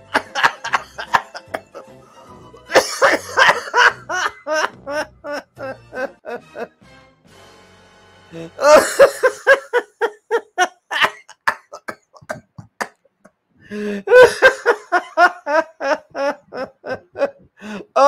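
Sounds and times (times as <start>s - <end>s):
men laughing hard: 0.1s - 6.8s, 8.4s - 12.9s, 13.7s - 18.0s.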